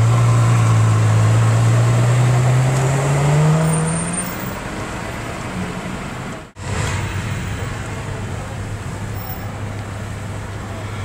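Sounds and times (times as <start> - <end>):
car engine pulling away: 0.0 - 10.8.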